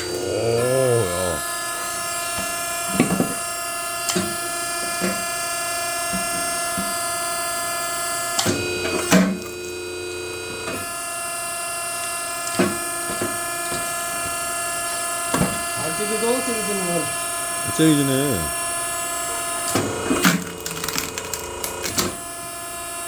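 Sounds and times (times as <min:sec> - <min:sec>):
log splitter motor whine: 0:00.0 - 0:23.0.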